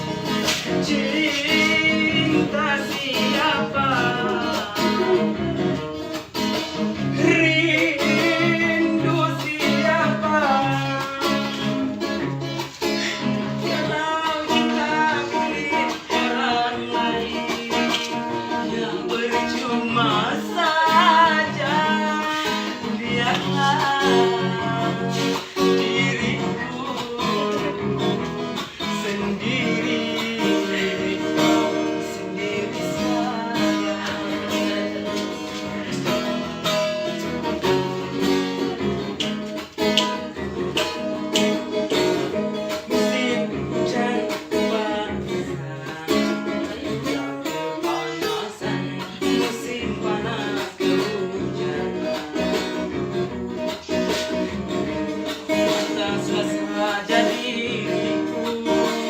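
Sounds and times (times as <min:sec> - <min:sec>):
acoustic guitar strumming: 0:00.0 - 0:59.0
person singing: 0:00.0 - 0:59.0.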